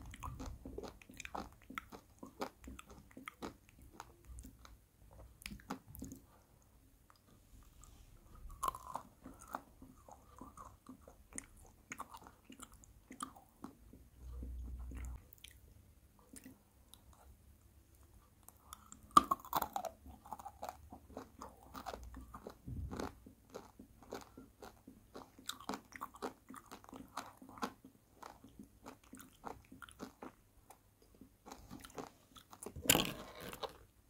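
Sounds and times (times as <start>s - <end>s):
wet chewing with clicks: 0.0s - 6.4s, 8.4s - 15.6s, 16.2s - 17.3s, 17.9s - 33.8s.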